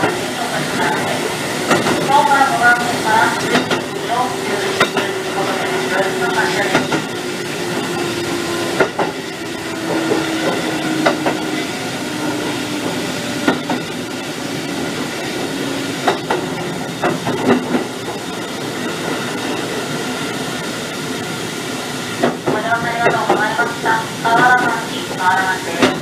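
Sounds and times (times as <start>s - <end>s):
faint train whine: 0.0s - 26.0s
rail joint clicks: 0.0s - 26.0s
train rumble: 0.0s - 26.0s.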